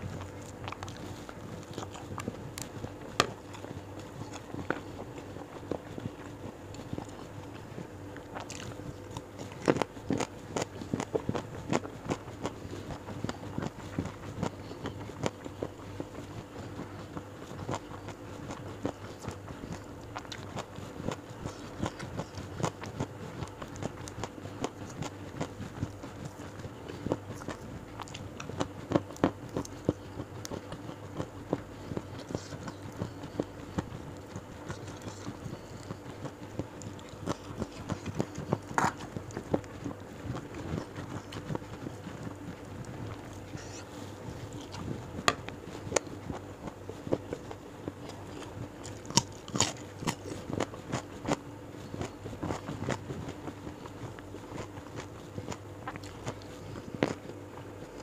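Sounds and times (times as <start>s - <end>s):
chewing and lip smacks: 0.0s - 58.0s
steady low hum: 0.0s - 58.0s.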